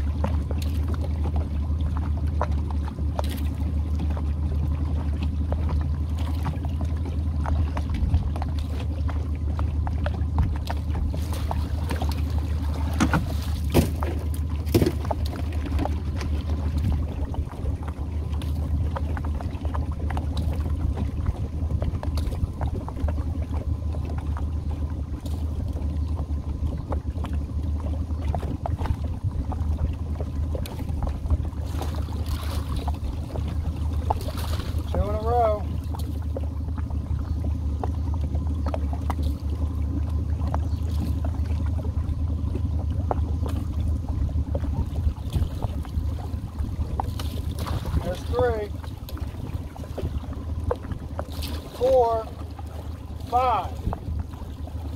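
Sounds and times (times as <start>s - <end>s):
boat engine idling: 0.0s - 54.9s.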